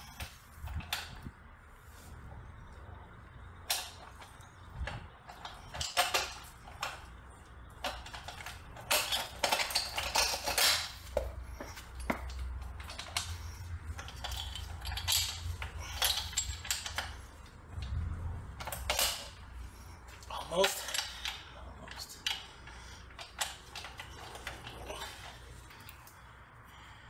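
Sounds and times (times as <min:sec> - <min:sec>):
metal clinks and scrapes: 0:03.6 - 0:26.3.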